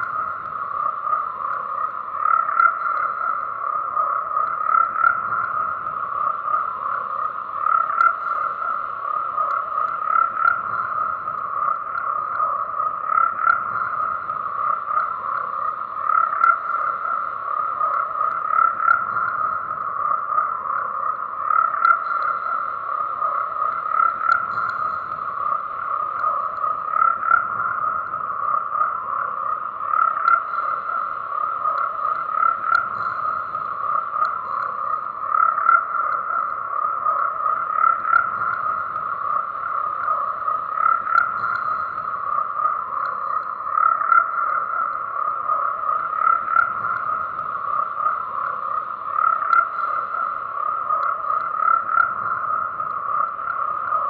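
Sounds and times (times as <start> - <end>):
chorus of frogs croaking: 0.0 - 54.0.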